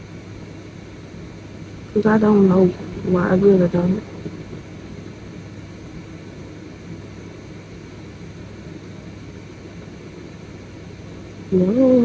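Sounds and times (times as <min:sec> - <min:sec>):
room noise hum and hiss: 0:00.0 - 0:12.0.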